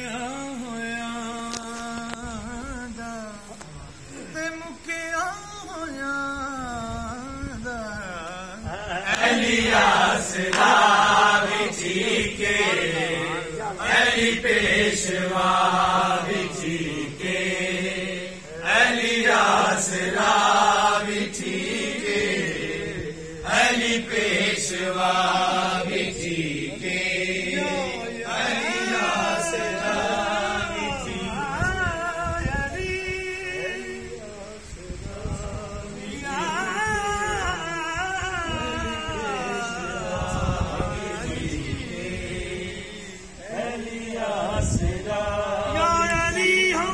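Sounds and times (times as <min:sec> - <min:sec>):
folk singing with wavering notes: 0:00.0 - 0:46.9.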